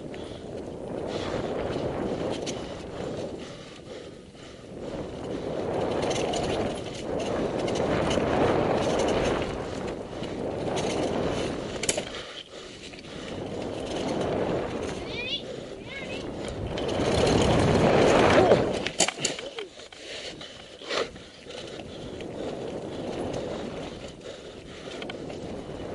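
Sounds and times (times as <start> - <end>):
bike rattling and clicking: 0.0 - 25.9
wind and tyres rushing: 0.0 - 25.9.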